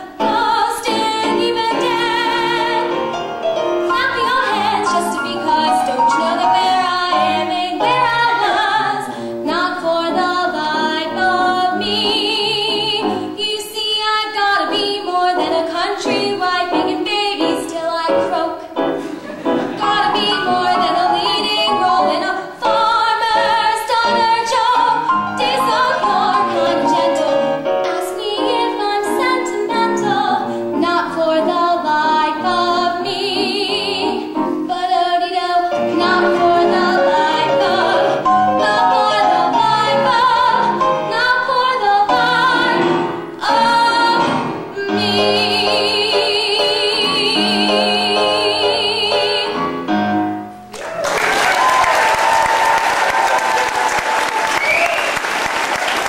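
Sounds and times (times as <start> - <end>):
piano accompaniment: 0.0 - 50.8.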